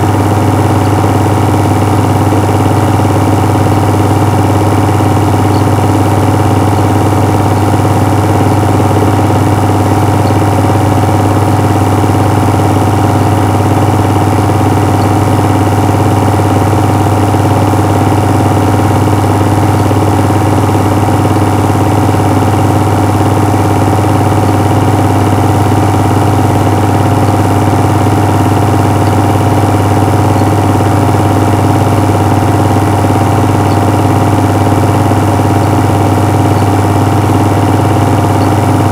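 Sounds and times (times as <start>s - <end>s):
loud low hum: 0.0s - 38.9s.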